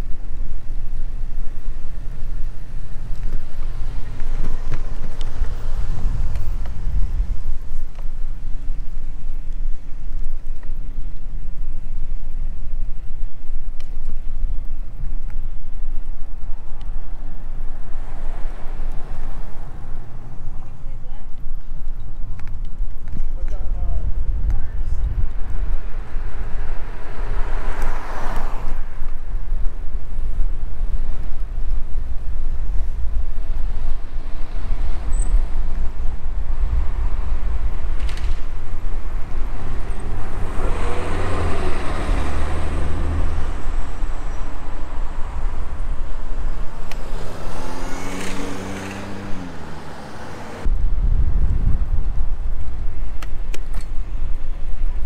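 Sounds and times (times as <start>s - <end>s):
cars passing: 0.0s - 10.0s, 16.0s - 22.4s, 23.4s - 55.0s
wind rumble on microphone: 0.0s - 55.0s.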